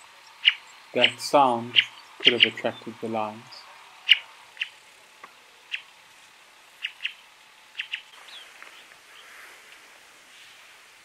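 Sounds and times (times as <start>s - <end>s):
birds chirping: 0.0s - 9.5s.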